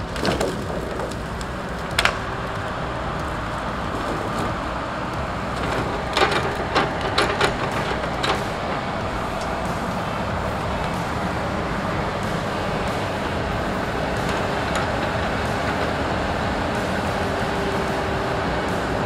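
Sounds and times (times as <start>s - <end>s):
logs knocking in grapple: 0.0s - 17.3s
diesel engine running: 0.0s - 19.0s.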